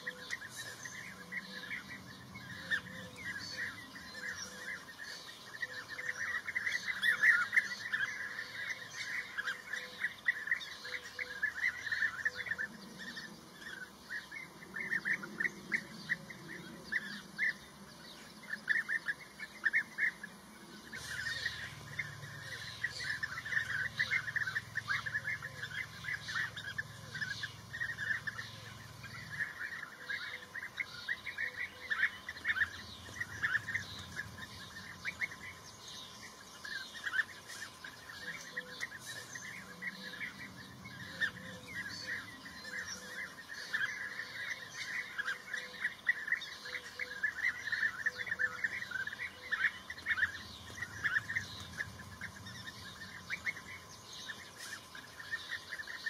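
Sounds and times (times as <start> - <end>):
bee-eaters calling: 0.0 - 56.0.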